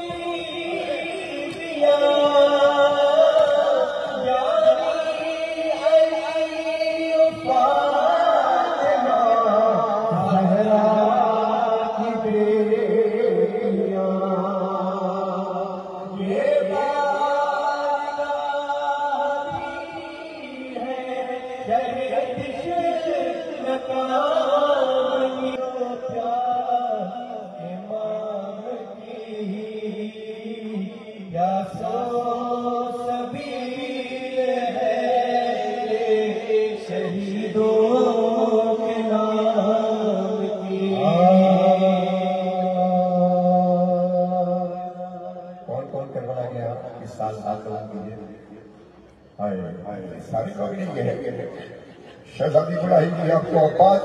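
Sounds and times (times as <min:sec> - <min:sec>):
man chanting through loudspeakers: 0:00.0 - 0:54.0.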